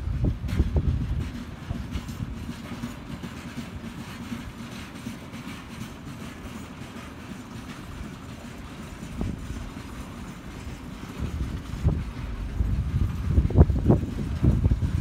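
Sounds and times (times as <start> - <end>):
freight train wheels rumbling on track: 0.0 - 15.0.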